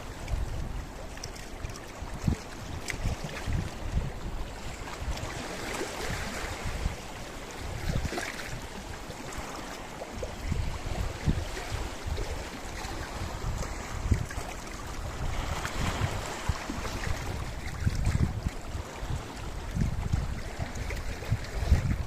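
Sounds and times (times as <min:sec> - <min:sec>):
sea waves on rocky shore: 0:00.0 - 0:22.0
wind buffeting microphone: 0:00.0 - 0:22.0.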